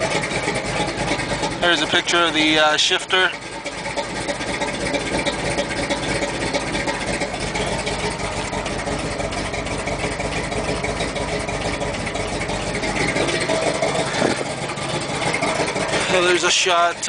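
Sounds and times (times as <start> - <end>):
car engine lumpy idle: 0.0 - 17.0.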